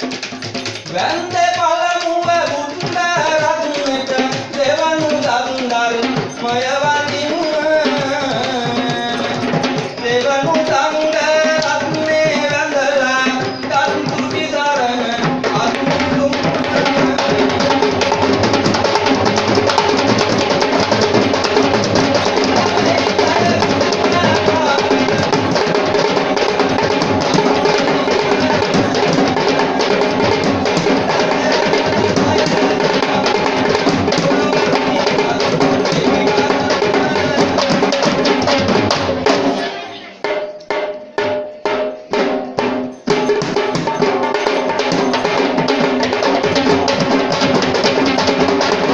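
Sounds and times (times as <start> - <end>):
drum ensemble: 0.0 - 48.9.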